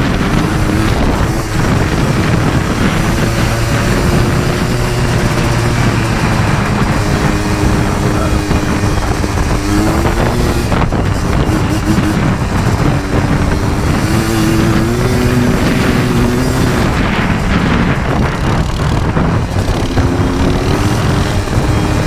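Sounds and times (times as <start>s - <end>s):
two-stroke engine revving: 0.0s - 22.0s
wind buffeting microphone: 0.0s - 22.0s.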